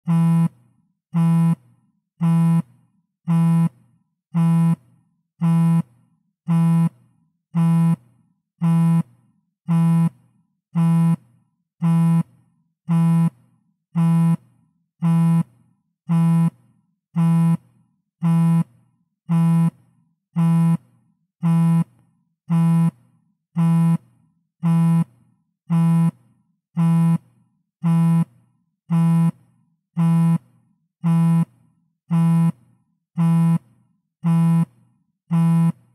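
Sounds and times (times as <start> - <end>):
phone vibrating on a table: 0.0 - 35.9.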